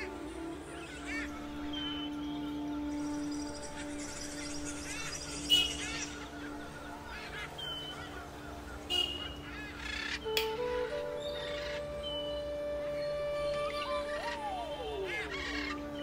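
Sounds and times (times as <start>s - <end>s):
honking bird calls: 0.0s - 16.0s
soft background music: 0.0s - 16.0s.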